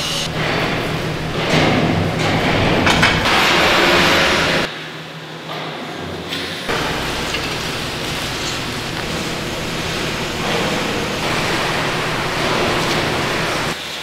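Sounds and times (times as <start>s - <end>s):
low machine hum: 0.0s - 4.7s, 6.7s - 13.8s
metal clatter: 0.0s - 4.7s, 6.7s - 13.8s
loud rushing noise: 0.0s - 4.8s, 6.7s - 13.8s.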